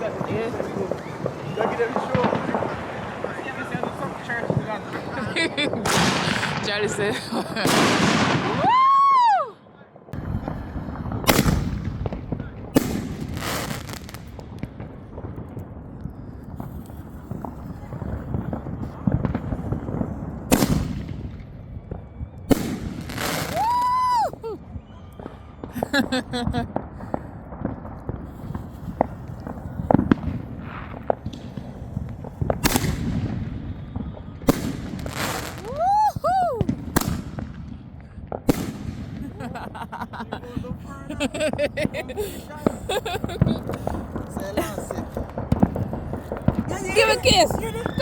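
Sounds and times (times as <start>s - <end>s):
firework bangs: 0.0s - 9.2s, 10.2s - 48.0s
firework crackling: 0.0s - 9.4s, 10.2s - 48.0s
low rumble of fireworks: 0.0s - 48.0s.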